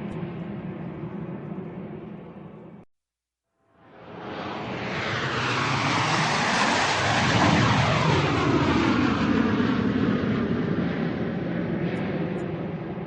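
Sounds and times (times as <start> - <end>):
airplane flying overhead: 0.0 - 2.9, 3.8 - 13.0.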